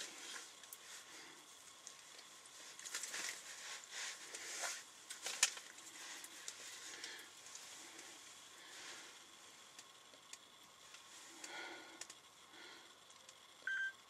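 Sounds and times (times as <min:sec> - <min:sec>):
rustling and handling noises: 0:00.0 - 0:12.2.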